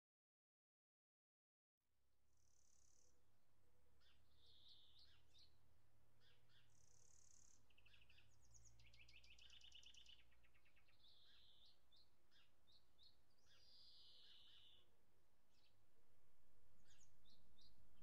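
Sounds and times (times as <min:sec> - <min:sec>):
faint birdsong: 0:02.1 - 0:18.0.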